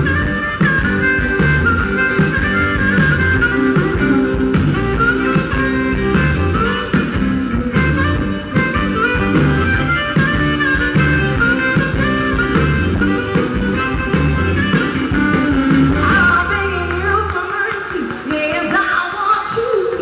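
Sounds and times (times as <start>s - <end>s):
harmonica lead: 0.0s - 17.2s
bass guitar: 0.0s - 18.6s
electric guitar: 0.0s - 20.0s
steady drum beat: 0.0s - 20.0s.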